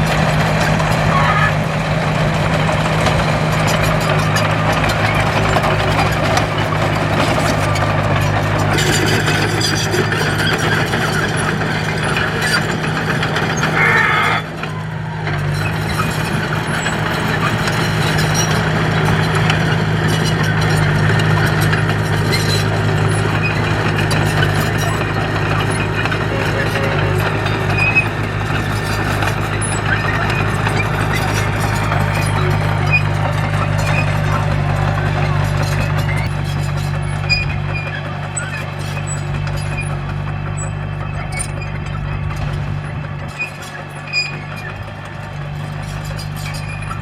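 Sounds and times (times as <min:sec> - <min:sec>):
heavy diesel engine running: 0:00.0 - 0:47.0
rattle: 0:02.3 - 0:14.6, 0:15.4 - 0:47.0.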